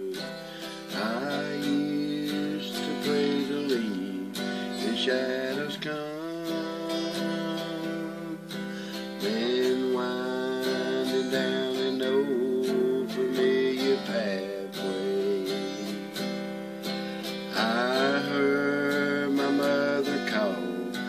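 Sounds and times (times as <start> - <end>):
person singing: 0.0 - 21.0
sliding held melody notes: 0.0 - 21.0
strummed acoustic guitar: 0.0 - 21.0.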